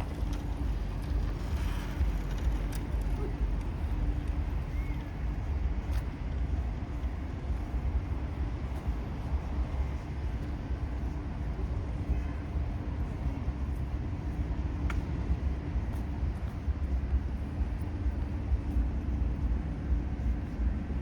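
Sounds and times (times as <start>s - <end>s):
distant road traffic rumble: 0.0s - 21.0s
faint steady hum: 0.0s - 21.0s.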